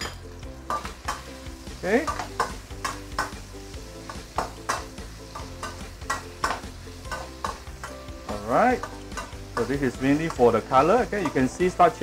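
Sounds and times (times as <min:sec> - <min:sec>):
meat sizzling in fat: 0:00.0 - 0:12.0
metal spatula scraping wok: 0:00.0 - 0:12.0.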